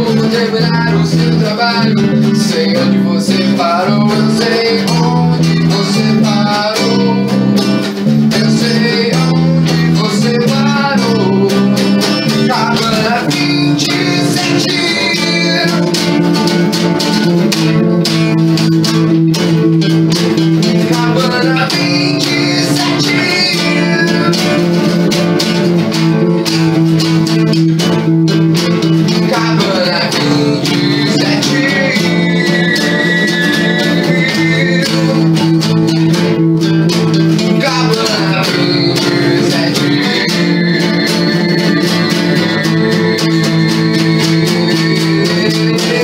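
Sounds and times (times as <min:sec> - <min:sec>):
acoustic rock band on guitars: 0:00.0 - 0:46.0.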